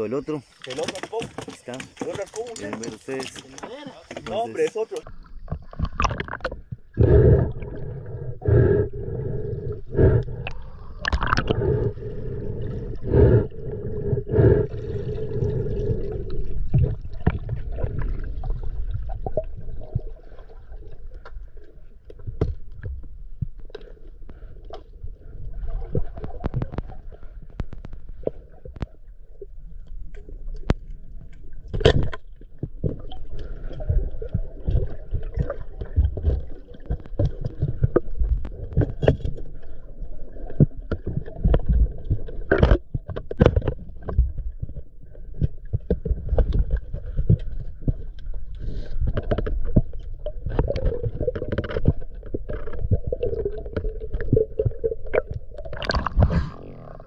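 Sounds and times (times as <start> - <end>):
water gurgling: 0.0 - 57.0
clicks and knocks underwater: 0.2 - 57.0
muffled low underwater rumble: 5.0 - 57.0.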